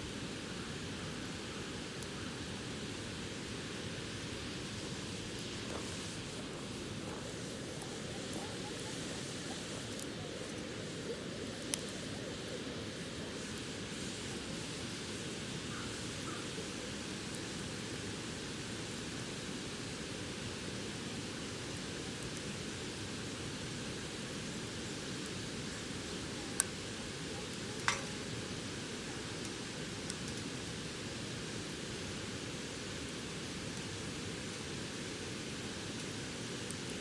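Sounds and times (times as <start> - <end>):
bonfire crackling pops: 0.0 - 37.0
fire rushing hiss: 0.0 - 37.0.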